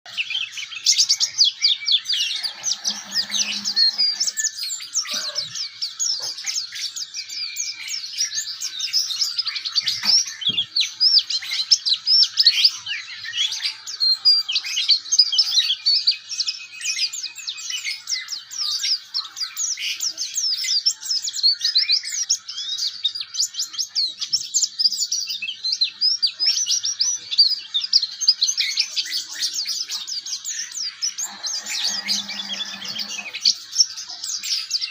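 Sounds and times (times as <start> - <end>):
bird twittering song: 0.0 - 34.9.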